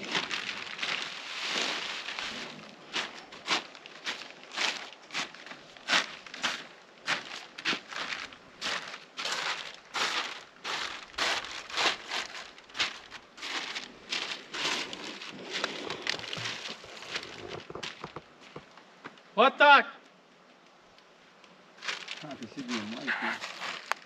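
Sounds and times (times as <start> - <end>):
plastic film crinkling under footsteps: 0.0 - 18.8, 21.8 - 24.0.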